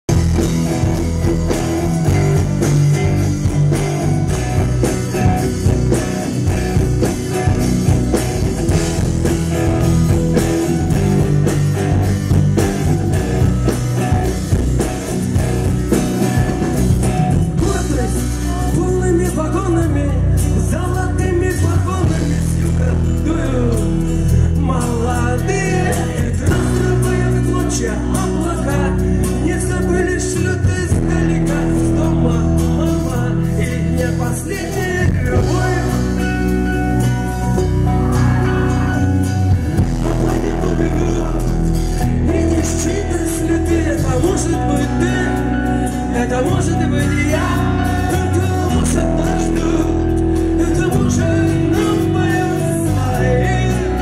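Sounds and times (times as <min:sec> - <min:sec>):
rock band playing live: 0:00.0 - 0:54.0
man singing: 0:00.1 - 0:54.0.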